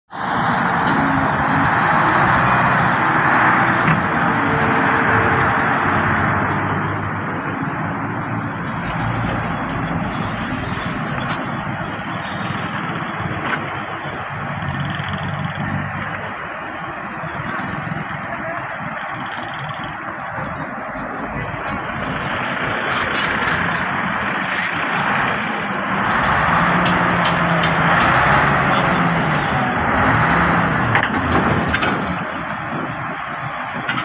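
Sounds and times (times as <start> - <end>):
diesel engine running: 0.1 - 34.0.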